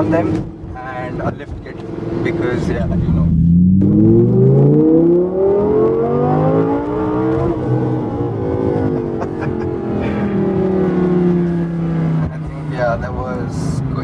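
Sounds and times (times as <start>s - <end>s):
sports car engine accelerating hard: 0.0s - 14.0s.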